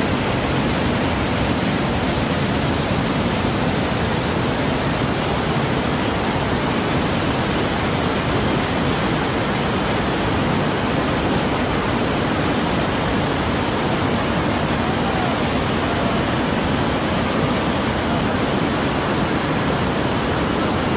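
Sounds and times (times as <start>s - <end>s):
water pouring over dam wall: 0.0s - 20.9s.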